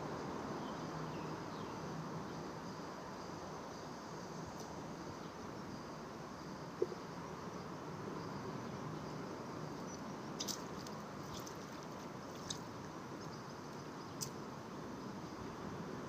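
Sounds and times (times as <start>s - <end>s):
riverbank background hiss: 0.0s - 16.0s.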